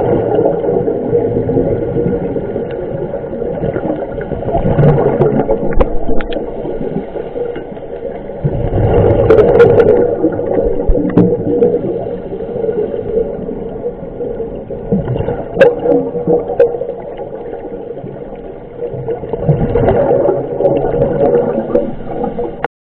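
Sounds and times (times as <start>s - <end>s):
bubbles gurgling underwater: 0.0s - 22.7s.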